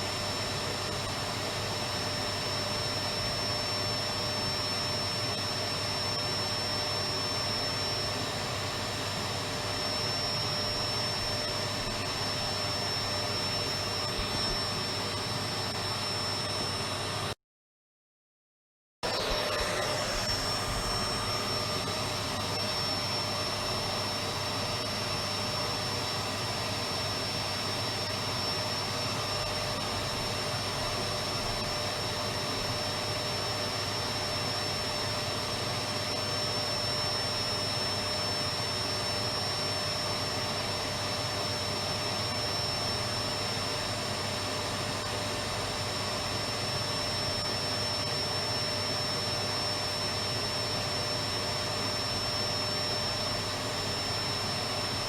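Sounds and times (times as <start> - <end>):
vacuum cleaner running: 0.0 - 17.4, 19.0 - 55.0.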